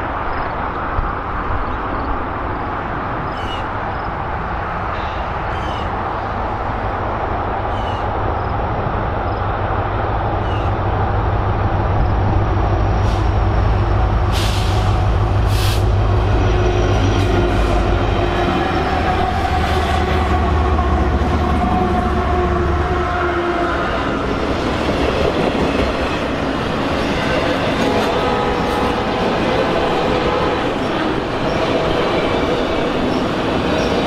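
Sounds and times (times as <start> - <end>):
diesel locomotive engine rumble: 0.0 - 34.0.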